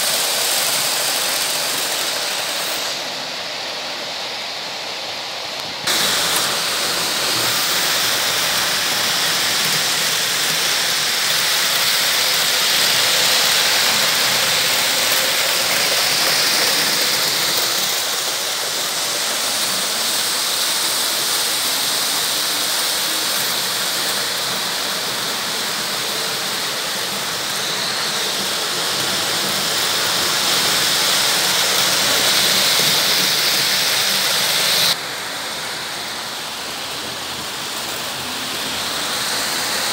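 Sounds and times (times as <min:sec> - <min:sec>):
model trains rolling on metal track: 0:00.0 - 0:39.9.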